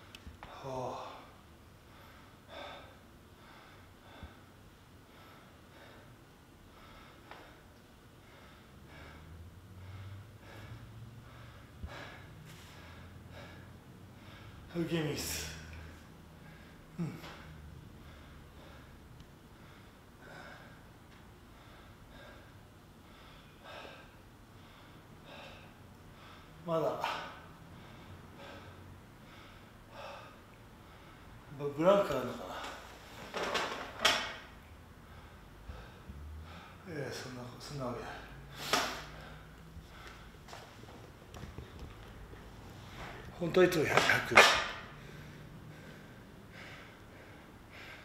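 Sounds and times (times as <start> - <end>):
man breathing hard: 0.4 - 31.6, 32.2 - 43.4, 44.6 - 48.0.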